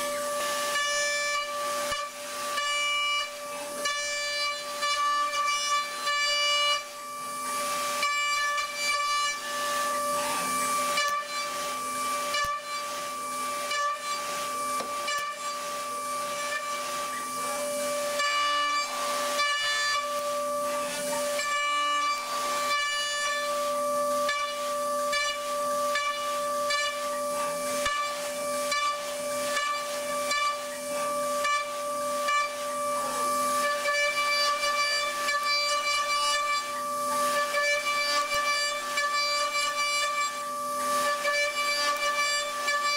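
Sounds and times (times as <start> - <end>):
cutting tool rasps: 0.0 - 42.9
metal cutting hiss: 0.0 - 42.9
mill spindle high whine: 0.0 - 42.9.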